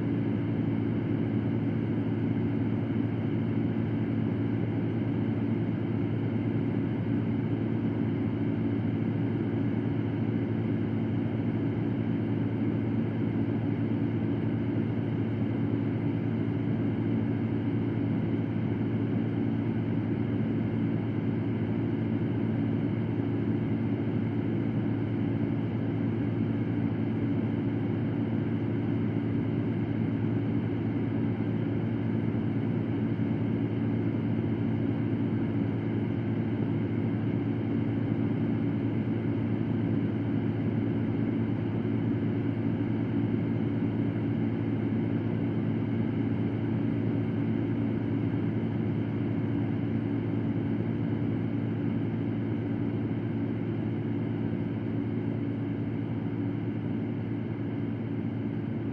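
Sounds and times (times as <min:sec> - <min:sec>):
electric fan running: 0:00.0 - 0:58.9.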